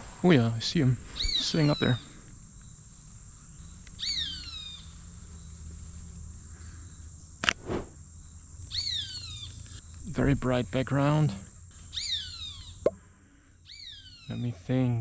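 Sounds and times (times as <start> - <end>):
insects droning: 0.2 - 12.6.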